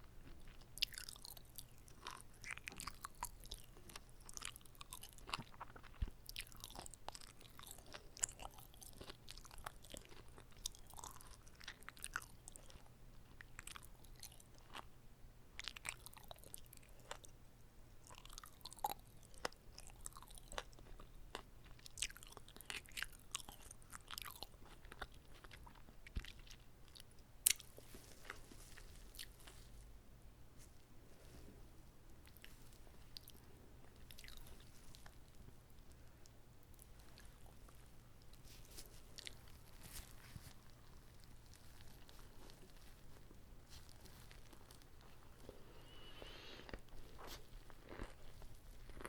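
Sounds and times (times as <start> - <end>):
soft crunches of food: 0.0 - 14.9, 15.6 - 17.4, 18.0 - 30.0, 30.6 - 49.0.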